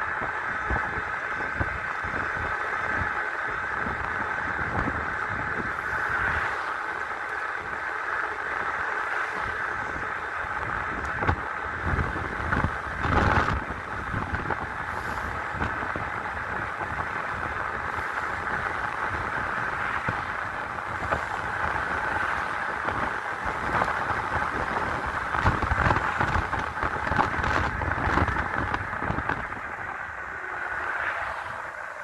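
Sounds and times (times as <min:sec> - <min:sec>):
road and tyre rumble: 0:00.0 - 0:32.0
wind rushing over microphone: 0:00.0 - 0:32.0.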